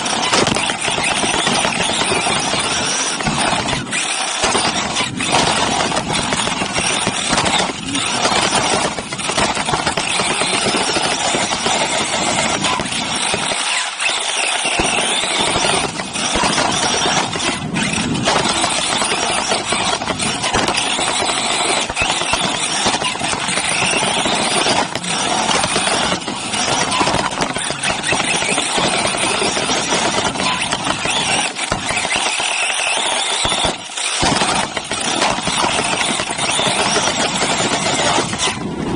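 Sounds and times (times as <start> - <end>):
rc buggy racing on dirt: 0.0 - 38.9.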